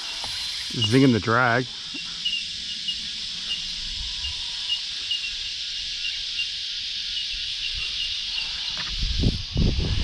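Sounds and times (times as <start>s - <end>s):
high-pitched insect chorus: 0.0s - 10.0s
short insect chirp: 0.0s - 10.0s.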